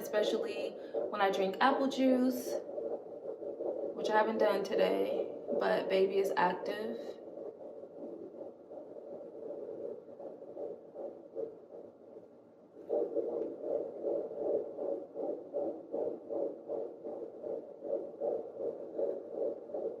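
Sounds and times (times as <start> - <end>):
fetal heartbeat through doppler: 0.0 - 20.0.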